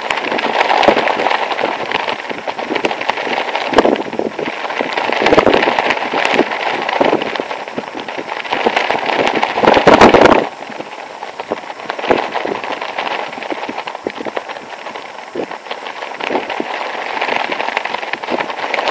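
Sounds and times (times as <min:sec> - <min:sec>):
nylon clothing flapping in wind: 0:00.0 - 0:18.9
wind buffeting microphone: 0:00.0 - 0:18.9.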